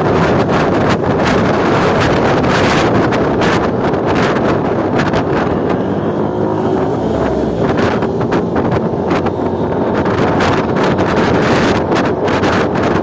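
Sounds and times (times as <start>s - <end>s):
motorcycle hum: 0.0s - 13.0s
road noise: 0.0s - 13.0s
wind buffeting microphone: 0.0s - 13.0s.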